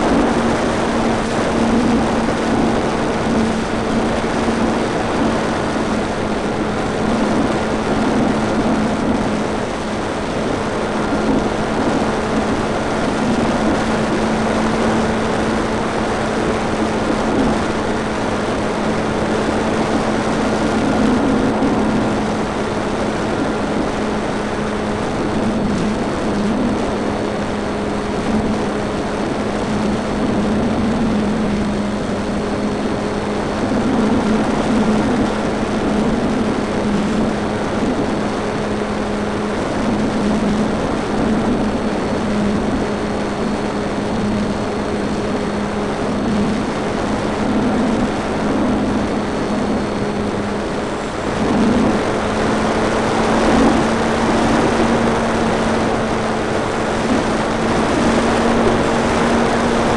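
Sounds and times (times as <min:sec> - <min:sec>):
electric motor and propeller hum: 0:00.0 - 0:59.9
loud rushing wind: 0:00.0 - 0:59.9.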